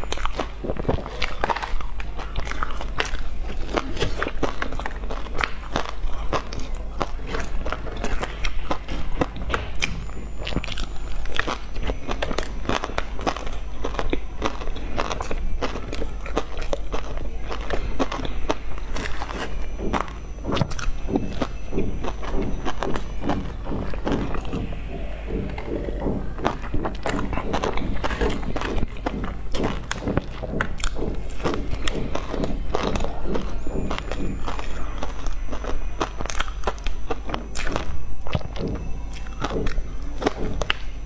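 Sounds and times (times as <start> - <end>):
crunchy chewing: 0.0 - 41.0
steady low hum: 0.0 - 41.0.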